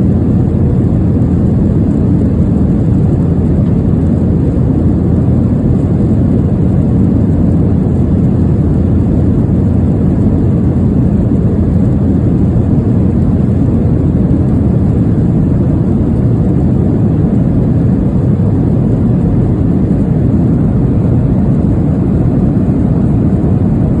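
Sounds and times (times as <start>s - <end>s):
aircraft cabin rumble in flight: 0.0s - 24.0s.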